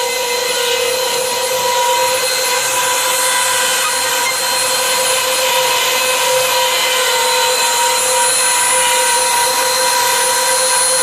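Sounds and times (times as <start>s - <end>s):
hiss of cutting wood: 0.0s - 11.0s
router spindle whine: 0.0s - 11.0s.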